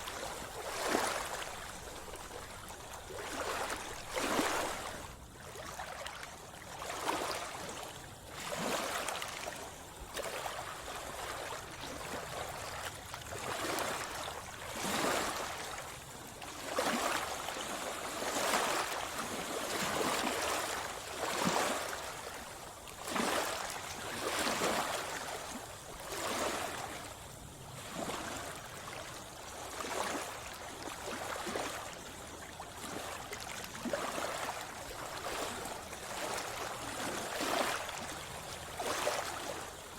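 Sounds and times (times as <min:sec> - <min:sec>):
seawater splashing and gurgling: 0:00.0 - 0:39.9.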